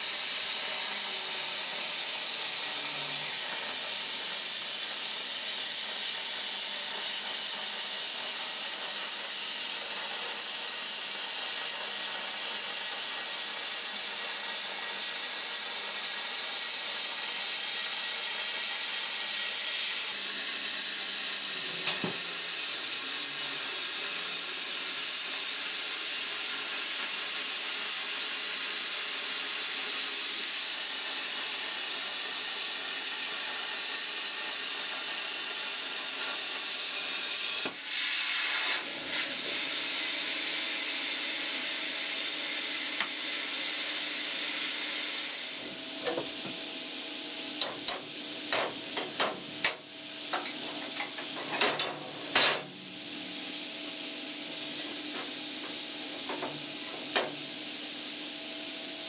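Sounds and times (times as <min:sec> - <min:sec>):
plasma torch hissing: 0:00.0 - 0:59.0.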